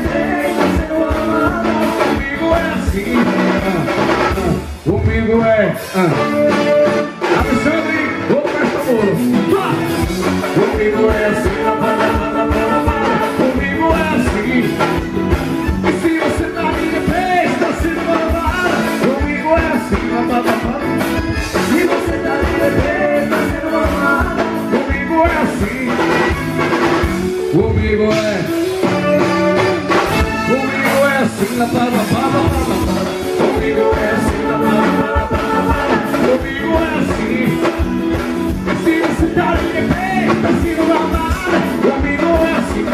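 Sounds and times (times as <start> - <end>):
lead vocalist singing: 0.0 - 42.9
live band playing: 0.0 - 42.9
steady drum beat: 0.0 - 42.9.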